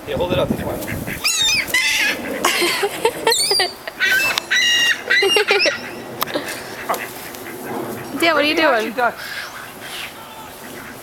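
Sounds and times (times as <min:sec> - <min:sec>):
seagulls squawking: 0:00.6 - 0:11.0.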